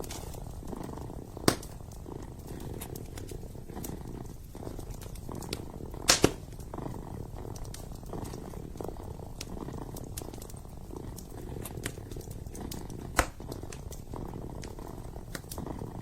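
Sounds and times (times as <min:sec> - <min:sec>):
kitten purring: 0:00.0 - 0:16.0
log fire crackling and popping: 0:00.0 - 0:16.0.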